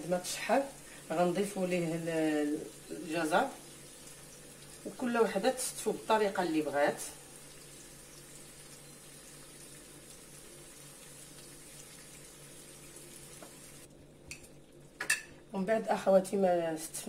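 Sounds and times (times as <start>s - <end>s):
chicken frying in oil: 0.0s - 13.9s.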